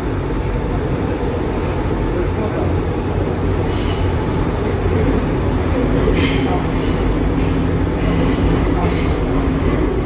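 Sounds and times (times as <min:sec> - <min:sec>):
metro train rumbling: 0:00.0 - 0:10.0.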